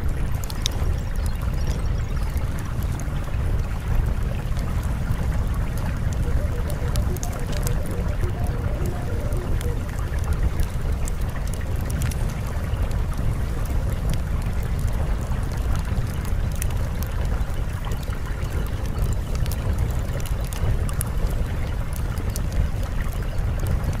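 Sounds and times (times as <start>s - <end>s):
faint crackles: 0.0s - 24.0s
steady rushing noise: 0.0s - 24.0s.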